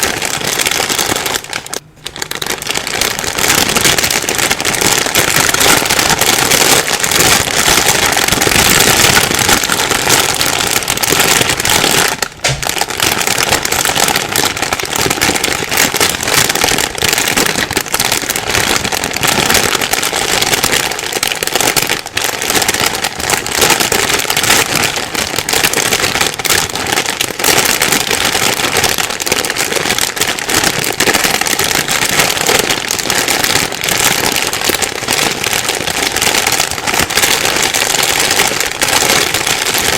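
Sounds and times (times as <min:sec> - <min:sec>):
plastic bag crumpling: 0:00.0 - 0:39.9.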